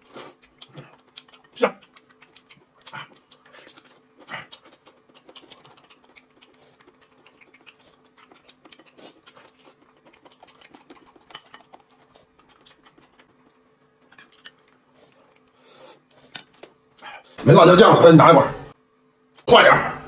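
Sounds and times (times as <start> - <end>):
man tearing and chewing meat: 0.0 - 17.4.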